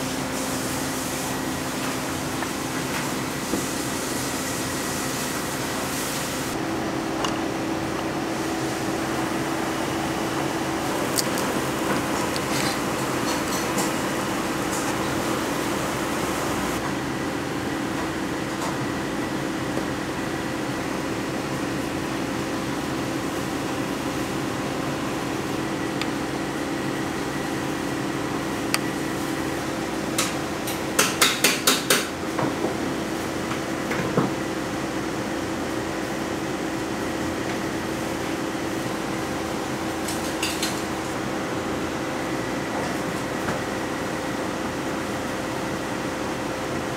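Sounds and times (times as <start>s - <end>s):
steady mechanical hum: 0.0s - 46.9s.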